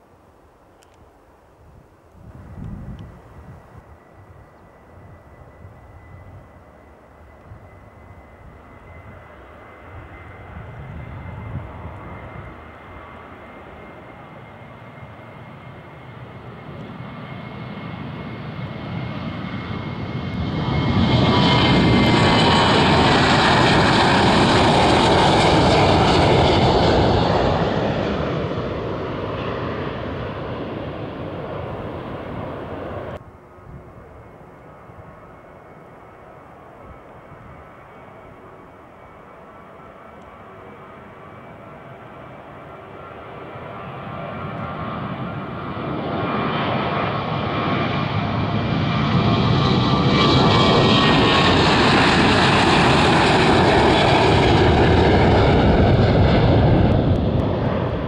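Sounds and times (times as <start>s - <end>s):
distant jet noise: 0.0s - 58.0s
jet engines at takeoff power: 2.1s - 58.0s.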